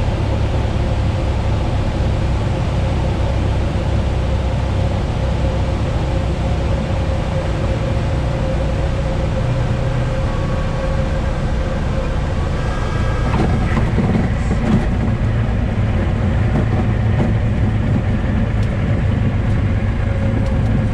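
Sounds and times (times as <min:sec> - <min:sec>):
small plane engine running: 0:00.0 - 0:20.9.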